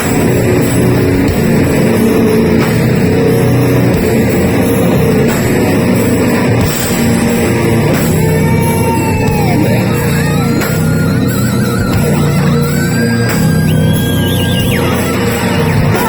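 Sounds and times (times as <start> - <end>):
electric guitar: 0.0 - 16.0
heavy metal band playing live: 0.0 - 16.0.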